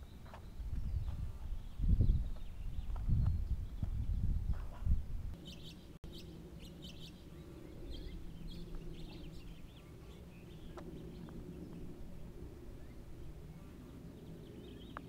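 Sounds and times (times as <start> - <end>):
faint low outdoor rumble: 0.0 - 15.0
small birds chirping: 0.0 - 15.0.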